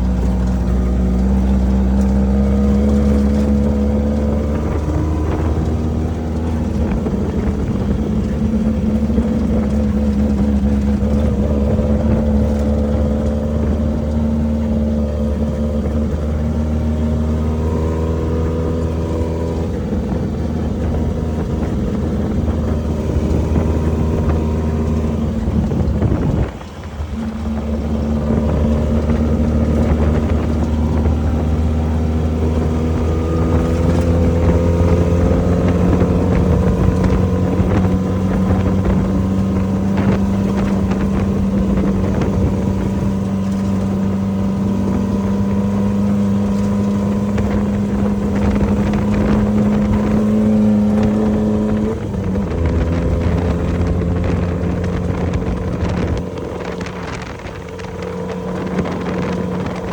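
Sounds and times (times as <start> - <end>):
race vehicle engine running: 0.0 - 59.9.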